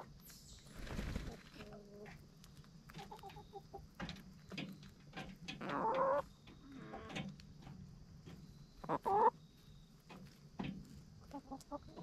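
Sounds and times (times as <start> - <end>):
chickens clucking: 0.8 - 12.0
pecking ticks: 1.7 - 12.0.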